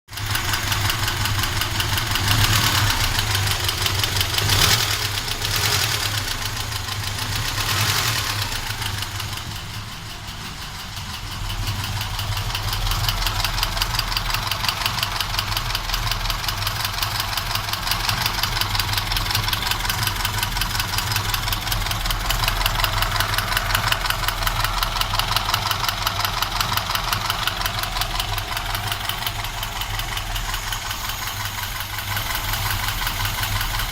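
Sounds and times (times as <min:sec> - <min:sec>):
car engine with knock: 0:00.1 - 0:33.9.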